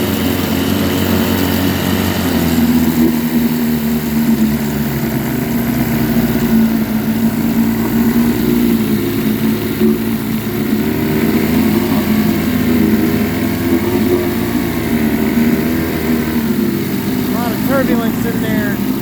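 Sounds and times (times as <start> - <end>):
two-stroke outboard motor running: 0.0 - 19.0.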